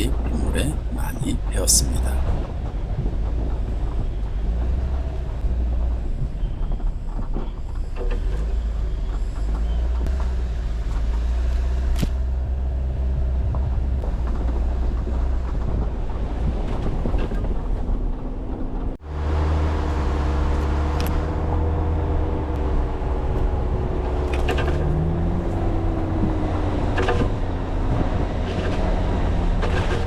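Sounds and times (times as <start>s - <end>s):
vehicle engine rumble: 0.0s - 30.0s
vehicle knocks and rattles: 2.3s - 19.0s, 22.5s - 30.0s.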